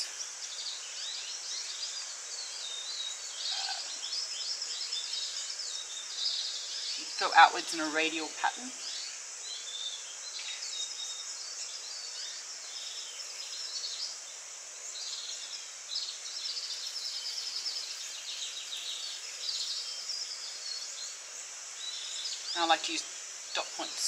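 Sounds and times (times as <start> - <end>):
birds chirping and twittering: 0.0 - 24.0
high-pitched outdoor hiss: 0.0 - 24.0.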